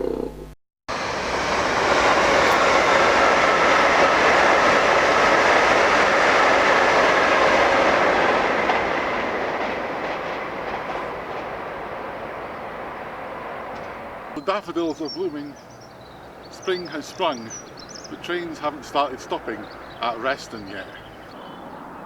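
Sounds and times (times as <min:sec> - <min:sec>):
train passing: 0:00.9 - 0:22.0.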